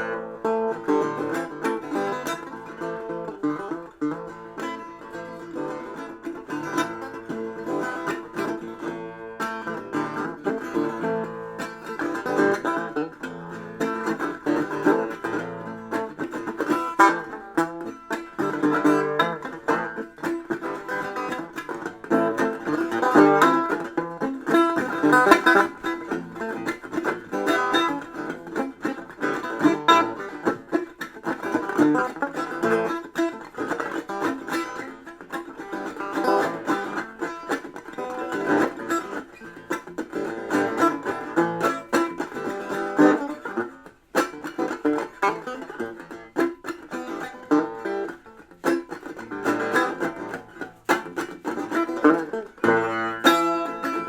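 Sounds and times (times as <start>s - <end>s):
plucked string instrument: 0.0s - 54.0s.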